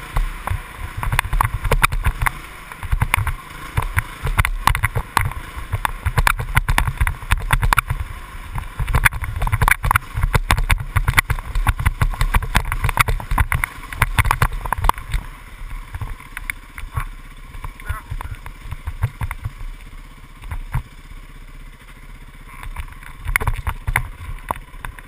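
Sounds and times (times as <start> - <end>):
knocks and rattles over bumps: 0.0 - 21.0, 21.8 - 25.0
muffled dirt bike engine drone: 0.0 - 25.0.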